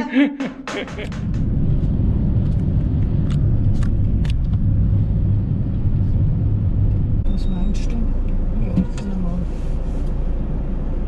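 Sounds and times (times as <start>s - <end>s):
engine and road rumble: 0.9s - 11.0s.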